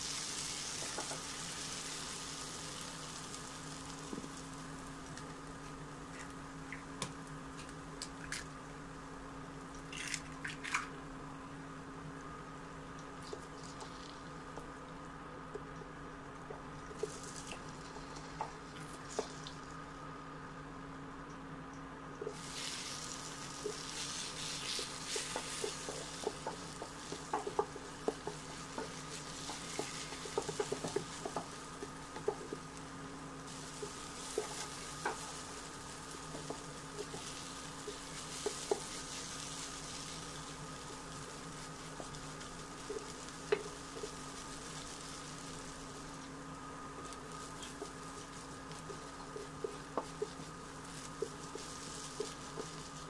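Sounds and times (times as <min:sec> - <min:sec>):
food sizzling in frying pan: 0:00.0 - 0:10.2, 0:12.2 - 0:14.8, 0:16.7 - 0:20.1, 0:22.3 - 0:53.0.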